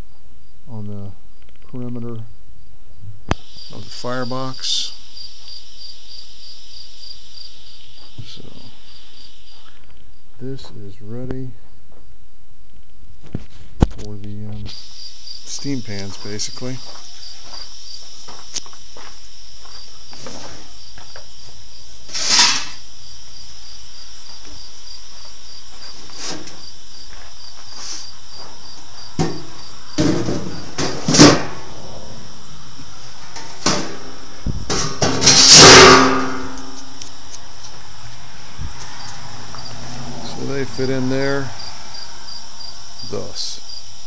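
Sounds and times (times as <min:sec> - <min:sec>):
crickets chirping: 0:00.0 - 0:44.0.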